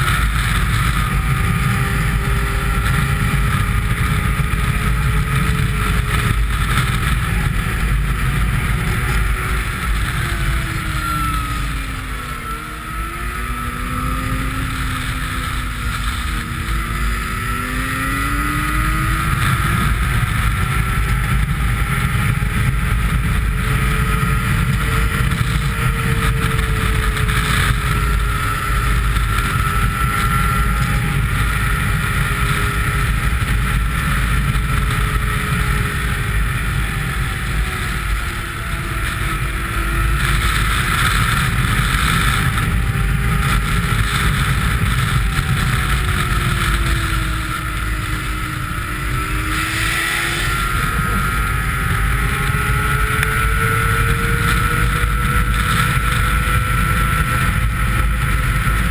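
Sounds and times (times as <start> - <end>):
snowmobile engine running: 0.0 - 58.9
wind buffeting microphone: 0.0 - 58.9.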